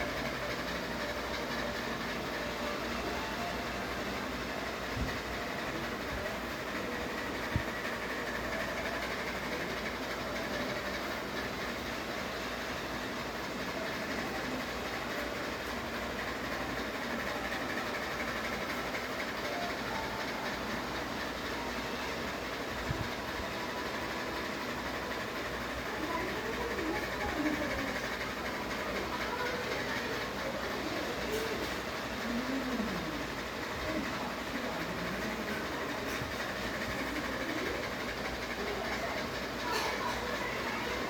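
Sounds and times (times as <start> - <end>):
ceiling fan whirring: 0.0 - 41.0.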